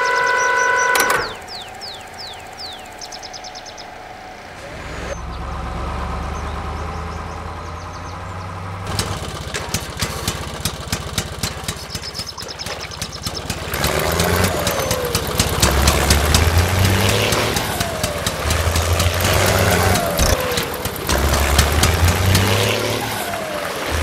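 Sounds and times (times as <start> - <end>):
engine idling then chugging: 0.0 - 24.0.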